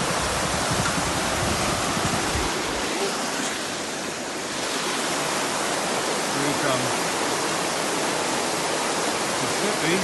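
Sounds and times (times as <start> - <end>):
river rapid rushing: 0.0 - 10.0.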